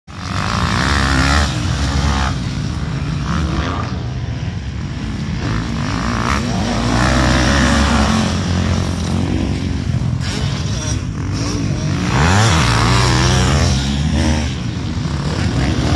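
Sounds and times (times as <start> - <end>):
dirt bike engines revving: 0.1 - 15.9.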